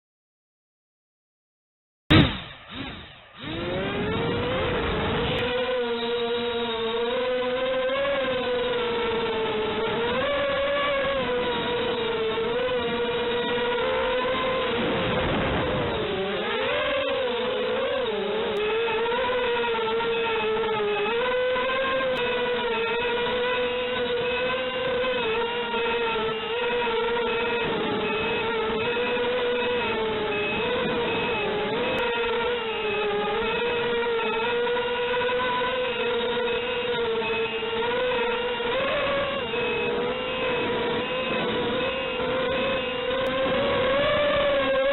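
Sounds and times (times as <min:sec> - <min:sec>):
small electric motors whining: 0:02.1 - 0:44.9.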